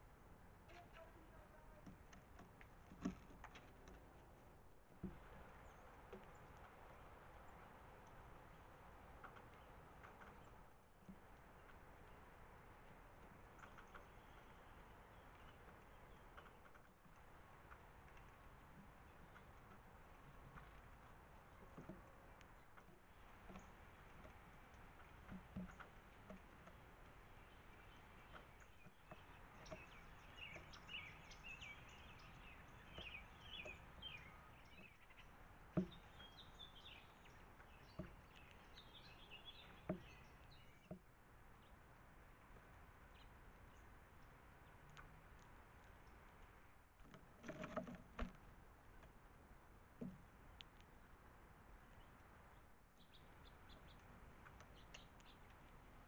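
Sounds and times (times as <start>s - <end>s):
faint outdoor hiss: 0.0s - 56.0s
small birds chirping: 0.0s - 56.0s
faint clicks and taps: 0.1s - 56.0s.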